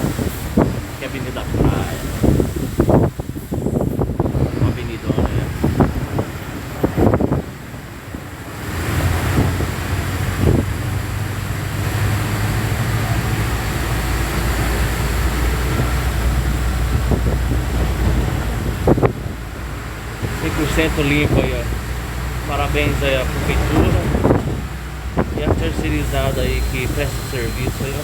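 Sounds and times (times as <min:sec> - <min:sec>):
tyres hissing on wet road: 0:00.0 - 0:28.0
vehicle engine hum: 0:00.0 - 0:28.0.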